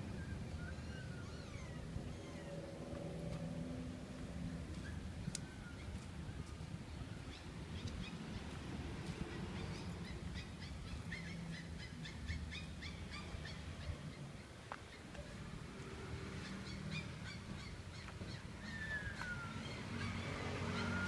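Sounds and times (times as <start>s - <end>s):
city traffic hum: 0.0s - 21.0s.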